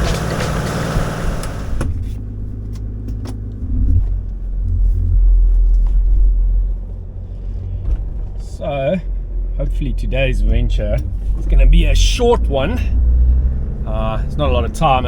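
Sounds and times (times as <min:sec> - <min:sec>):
car driving rumble inside cabin: 0:00.0 - 0:15.0.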